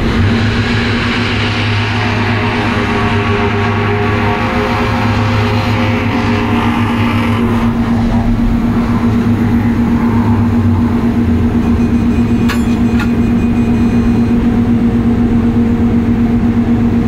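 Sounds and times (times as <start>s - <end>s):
concrete paver machine drone: 0.0s - 17.0s.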